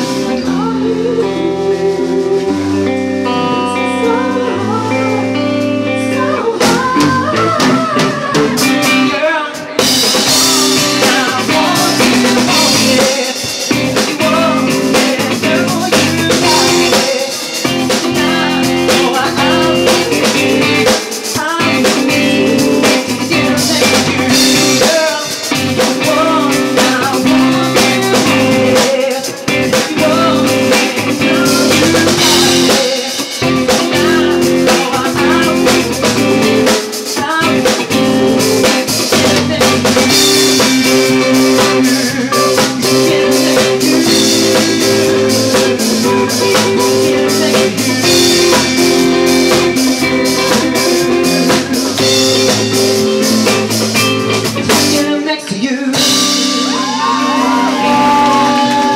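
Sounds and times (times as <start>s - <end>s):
man singing into a microphone: 0.0s - 3.0s, 3.6s - 52.6s, 54.8s - 58.9s
drum kit: 0.0s - 58.9s
electric guitar: 0.0s - 58.9s.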